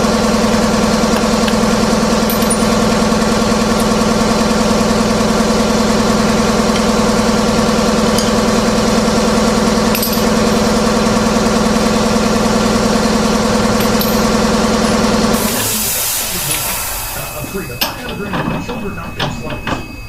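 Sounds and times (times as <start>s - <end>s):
motor droning: 0.0s - 20.0s.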